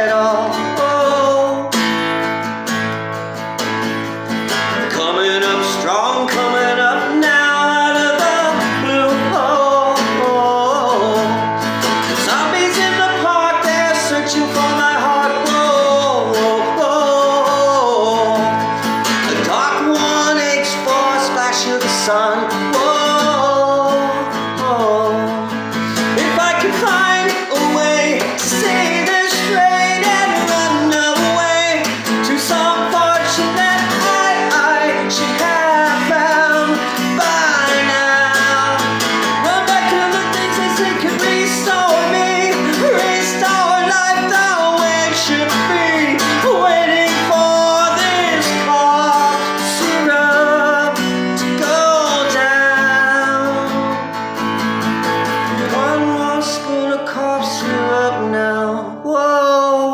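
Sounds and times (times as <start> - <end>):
person singing wordless lines: 0.0 - 3.0, 3.7 - 54.4, 55.3 - 59.9
guitar strumming: 0.0 - 59.9.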